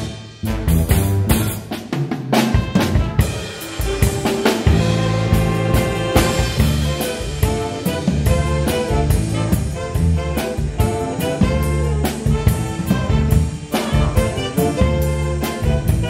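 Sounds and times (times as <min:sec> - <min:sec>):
jazz big band swing music: 0:00.0 - 0:16.0.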